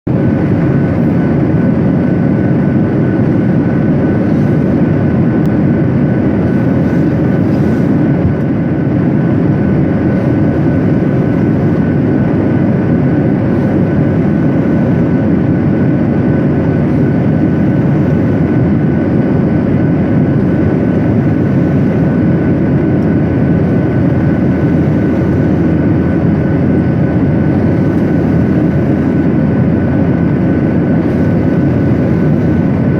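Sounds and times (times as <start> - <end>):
airliner engine drone: 0.0 - 32.9
faint steady whine: 0.1 - 32.9.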